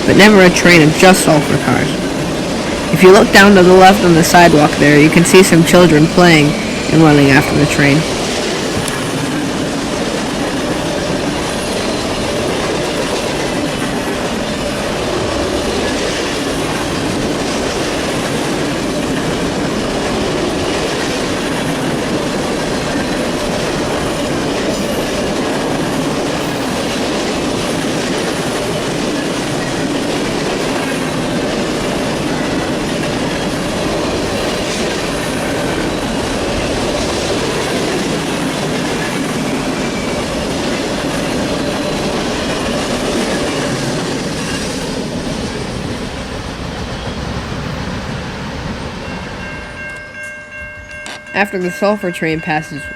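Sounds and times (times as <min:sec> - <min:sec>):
wheels clacking over rail joints: 0:00.0 - 0:51.4
freight train rolling past: 0:00.0 - 0:52.9.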